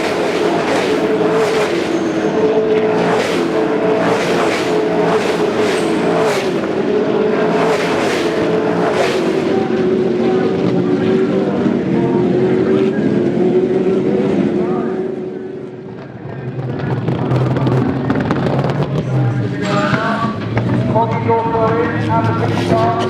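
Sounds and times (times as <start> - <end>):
race car engines accelerating: 0.0 - 23.0.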